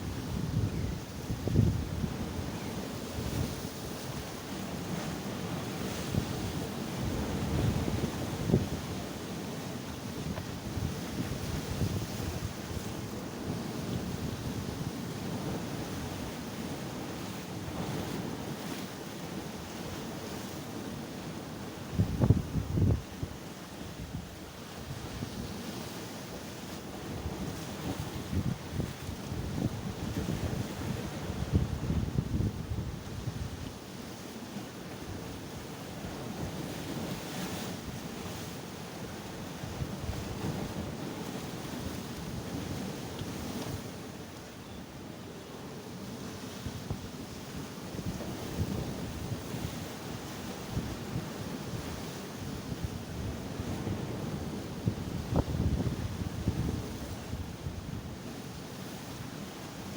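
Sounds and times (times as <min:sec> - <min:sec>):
wind rumbling on microphone: 0:00.0 - 0:18.8, 0:21.4 - 0:34.1, 0:34.9 - 0:44.2, 0:46.2 - 0:59.2
sea waves washing onto shore: 0:00.0 - 0:59.9.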